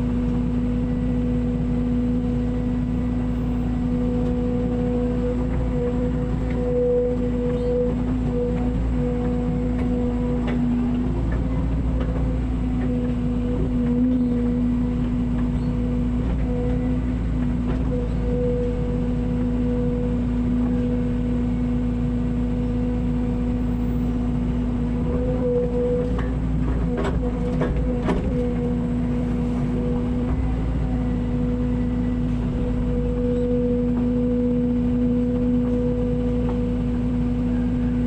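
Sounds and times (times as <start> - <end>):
excavator engine humming: 0.0 - 38.0.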